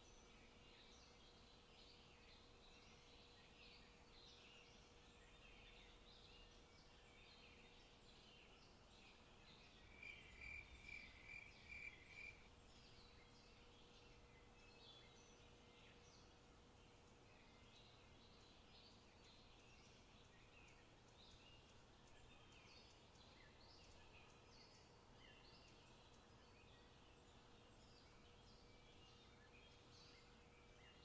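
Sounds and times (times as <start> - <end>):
small bird calls and chirps: 0.0 - 31.0.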